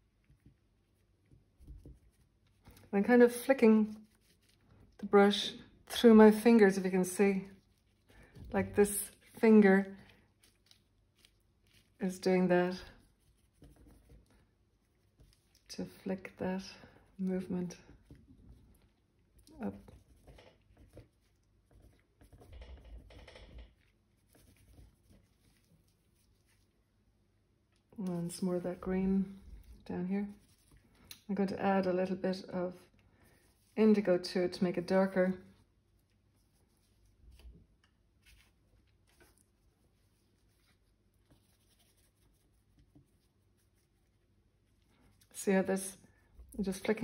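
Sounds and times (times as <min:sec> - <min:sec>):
paintbrush scratching: 0:00.0 - 0:27.1, 0:28.0 - 0:47.0
bristle brush strokes on canvas: 0:00.0 - 0:47.0.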